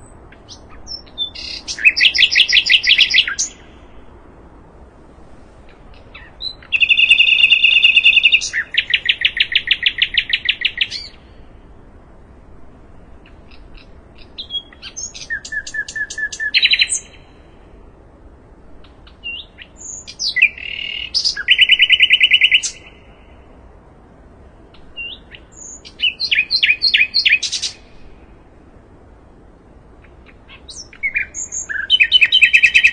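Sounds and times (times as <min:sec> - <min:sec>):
songbird singing: 0:00.0 - 0:04.9, 0:05.6 - 0:32.9.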